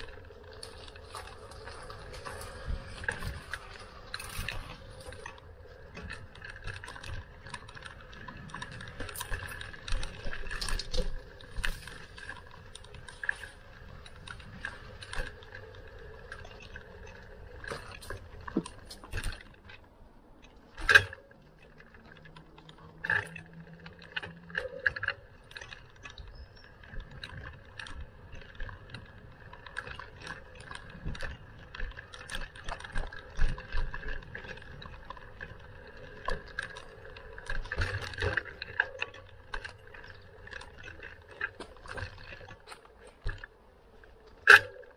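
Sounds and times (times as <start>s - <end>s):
bicycle parts rattling and clicking: 0.0s - 44.9s
faint steady hum: 0.0s - 44.9s.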